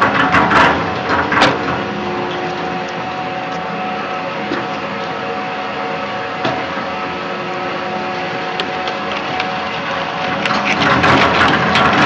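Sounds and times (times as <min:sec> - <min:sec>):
shredder running: 0:00.0 - 0:12.0.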